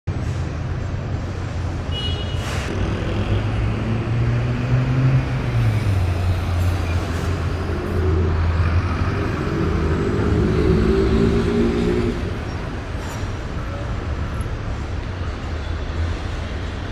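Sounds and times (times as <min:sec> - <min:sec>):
heavy engine drone: 0:00.1 - 0:16.9.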